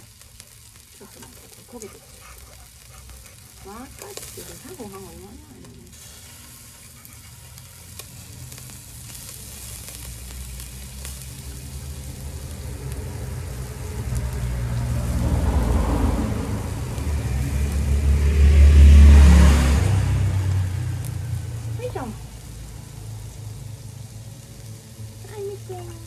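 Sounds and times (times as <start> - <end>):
meat sizzling on grill: 0.0 - 26.0
vehicle engine rumble: 0.0 - 26.0.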